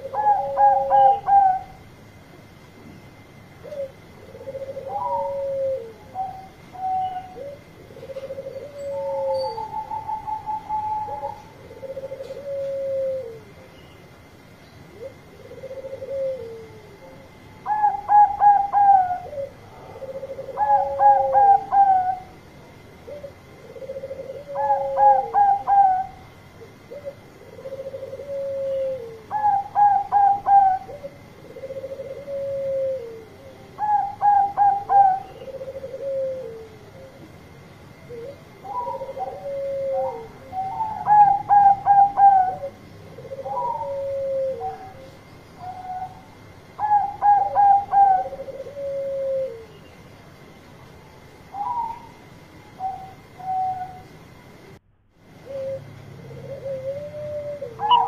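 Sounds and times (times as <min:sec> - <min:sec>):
dove cooing: 0:00.0 - 0:02.4, 0:03.4 - 0:49.9, 0:51.4 - 0:58.0.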